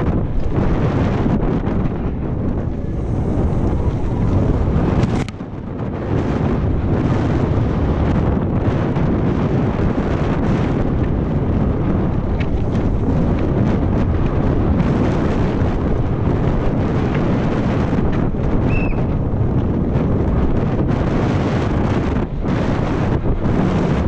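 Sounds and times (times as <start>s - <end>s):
bike rattling: 0.0s - 24.0s
wind buffeting microphone: 0.0s - 24.0s.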